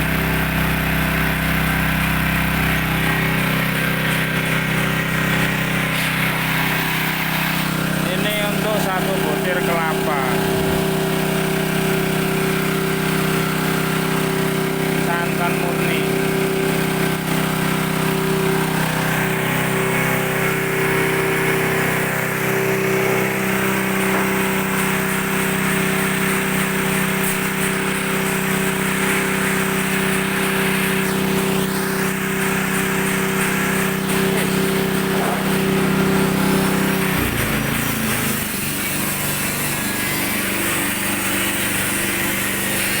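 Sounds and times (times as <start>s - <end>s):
machine motor humming: 0.0s - 43.0s.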